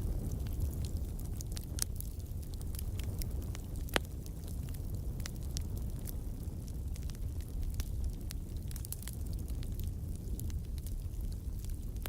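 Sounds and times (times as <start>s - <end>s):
fire crackling and popping: 0.0s - 12.0s
fire rumbling: 0.0s - 12.0s.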